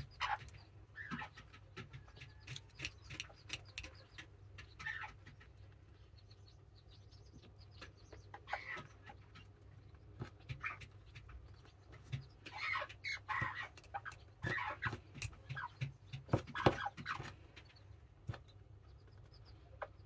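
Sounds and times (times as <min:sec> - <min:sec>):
hens clucking softly: 0:00.0 - 0:20.0.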